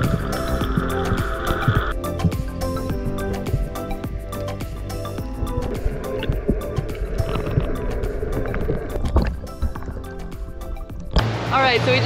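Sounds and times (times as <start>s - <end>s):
background music with beat: 0.0s - 11.2s.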